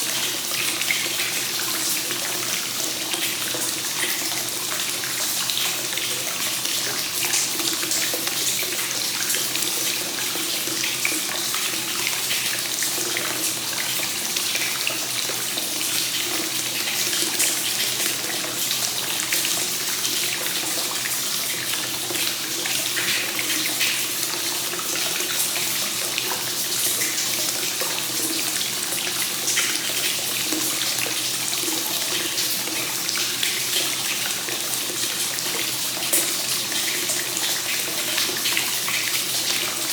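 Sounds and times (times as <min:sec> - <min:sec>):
water pouring into a bath: 0:00.0 - 0:39.9.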